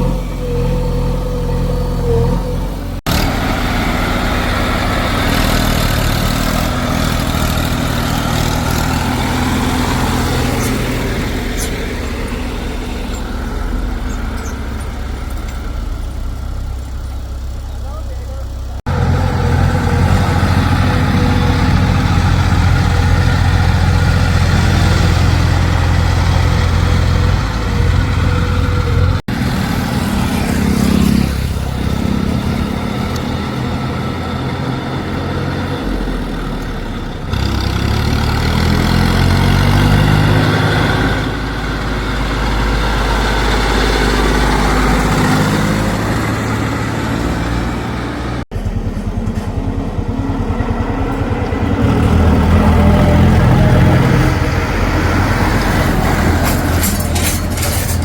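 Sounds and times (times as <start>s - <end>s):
heavy diesel machinery engines: 0.0s - 58.0s.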